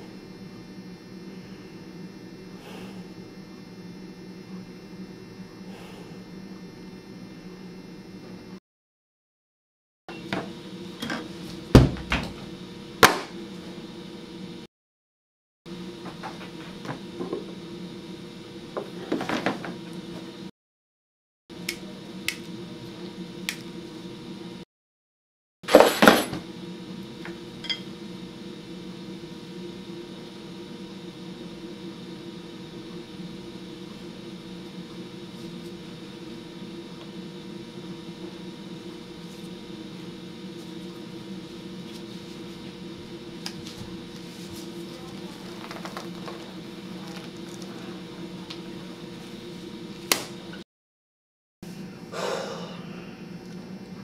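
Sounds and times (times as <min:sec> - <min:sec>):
steady mechanical hum: 0:00.0 - 0:08.6, 0:10.1 - 0:14.7, 0:15.7 - 0:20.5, 0:21.5 - 0:24.6, 0:25.7 - 0:50.6, 0:51.6 - 0:54.0.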